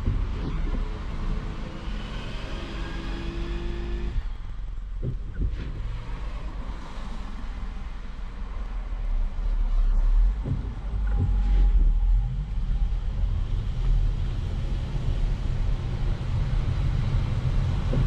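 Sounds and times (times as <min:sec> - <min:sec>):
low road rumble: 0:00.0 - 0:18.0.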